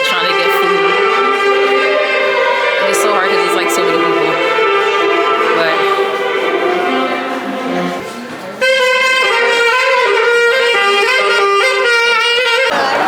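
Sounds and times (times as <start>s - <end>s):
horn melody of held notes: 0.0s - 13.0s.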